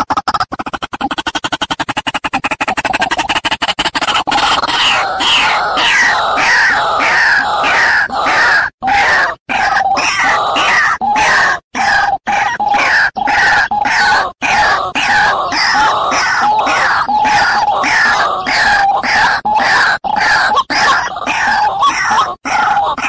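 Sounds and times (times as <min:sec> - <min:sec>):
waterhen calls: 0:00.0 - 0:23.0.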